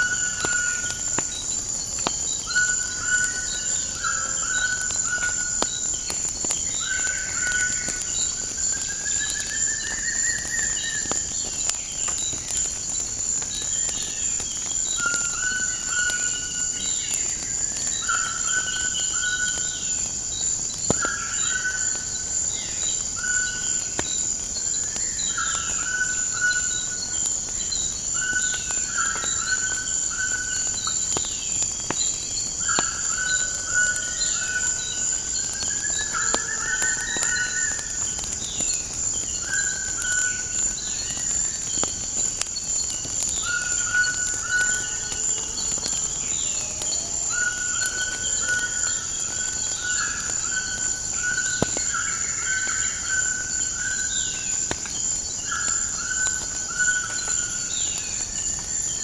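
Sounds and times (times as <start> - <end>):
birds whistling and chirping: 0.0 - 12.8, 20.7 - 59.0
insect drone: 0.0 - 59.0
wood fire crackles: 0.0 - 59.0.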